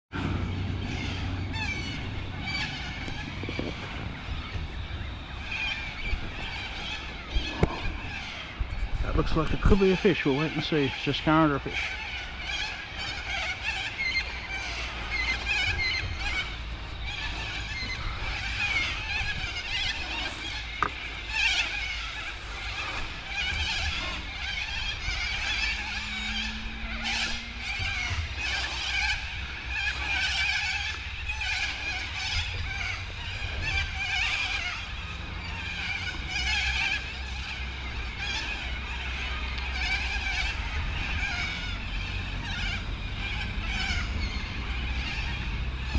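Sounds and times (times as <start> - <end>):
wind rumble on microphone: 0.1 - 45.9
insects buzzing and chirping: 0.2 - 45.9.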